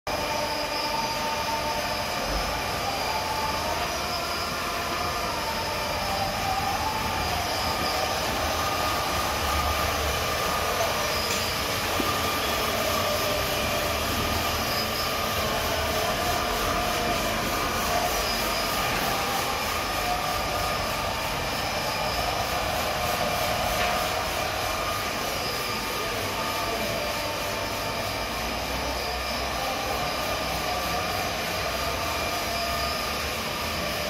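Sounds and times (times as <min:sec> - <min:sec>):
carpet washing machine running: 0:00.1 - 0:34.0
faint wavering squeals: 0:00.1 - 0:34.0.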